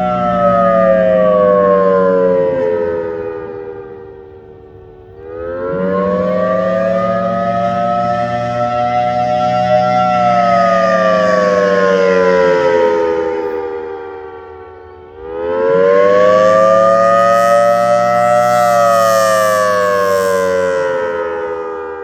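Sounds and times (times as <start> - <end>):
outdoor warning siren: 0.0 - 22.0.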